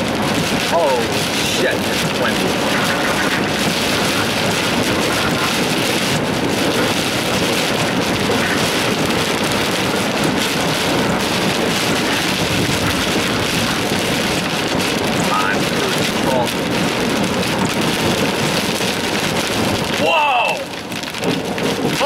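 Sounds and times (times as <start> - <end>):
heavy rain on a car roof: 0.0 - 22.0
strong wind: 0.0 - 22.0.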